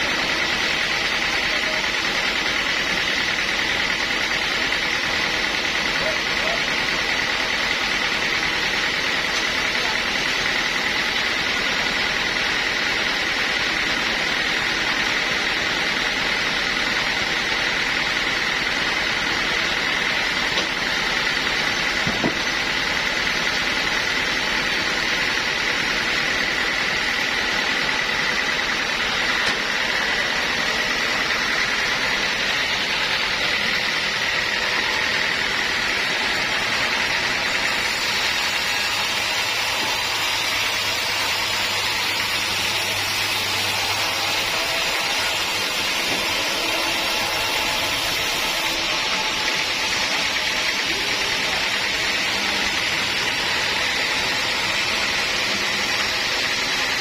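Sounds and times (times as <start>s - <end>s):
sawmill machinery whine: 0.0s - 57.0s.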